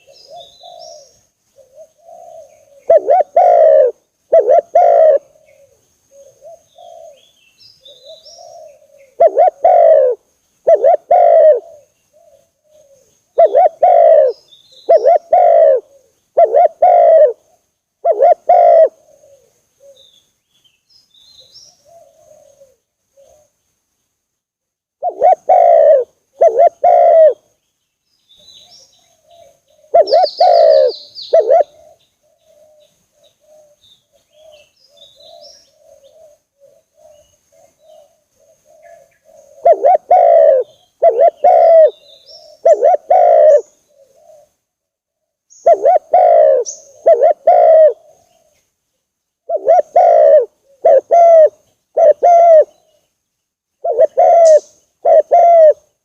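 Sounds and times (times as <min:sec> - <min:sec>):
dove cooing: 0:00.0 - 0:20.2, 0:21.4 - 0:23.6, 0:25.0 - 0:27.5, 0:28.4 - 0:48.6, 0:49.4 - 0:53.1, 0:53.8 - 0:56.0
faint dove cooing: 0:00.0 - 0:20.2, 0:21.3 - 0:23.6, 0:25.0 - 0:27.5, 0:28.4 - 0:48.7, 0:49.4 - 0:53.1, 0:53.8 - 0:56.0
bird chirp: 0:00.0 - 0:56.0.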